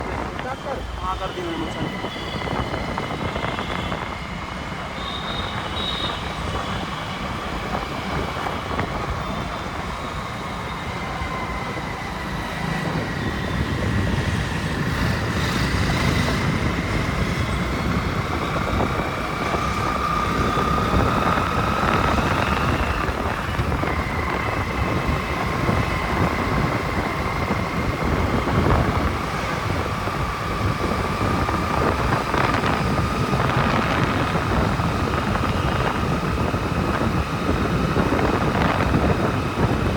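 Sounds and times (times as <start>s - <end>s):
engine road and wind rumble: 0.0s - 39.9s.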